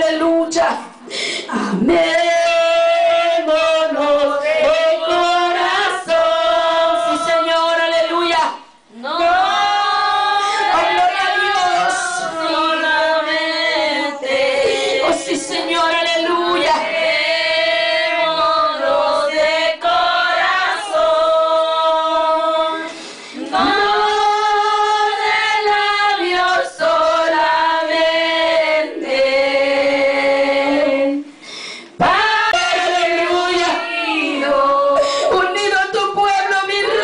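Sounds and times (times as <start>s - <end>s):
congregation singing a hymn: 1.8s - 31.3s, 32.0s - 37.0s.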